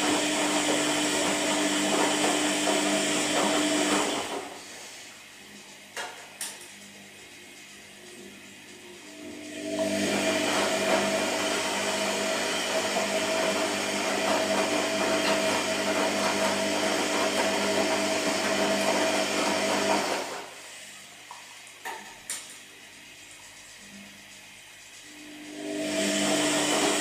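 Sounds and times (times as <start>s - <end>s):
washing machine running: 0.0s - 27.0s.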